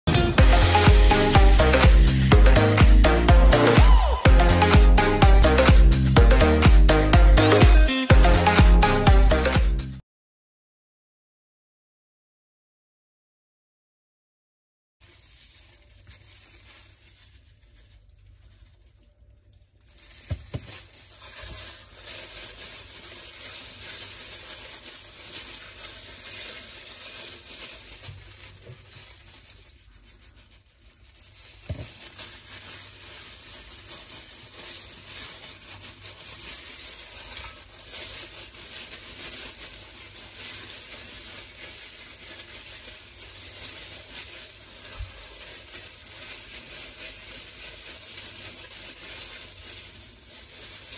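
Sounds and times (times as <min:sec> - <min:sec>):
plastic gloves crinkling: 0:00.4 - 0:07.6, 0:15.0 - 0:50.9.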